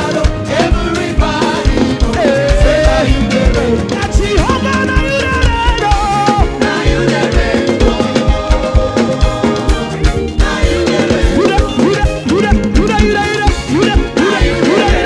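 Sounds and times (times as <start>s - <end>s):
live band playing gospel music: 0.0s - 15.0s
steady drum beat: 0.0s - 15.0s.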